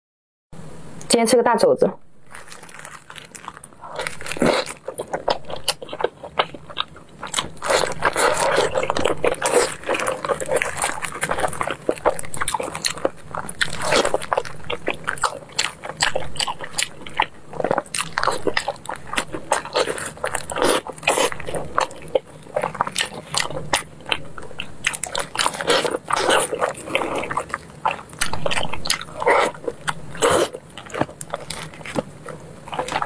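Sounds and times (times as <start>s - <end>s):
biting and chewing: 2.3s - 33.0s.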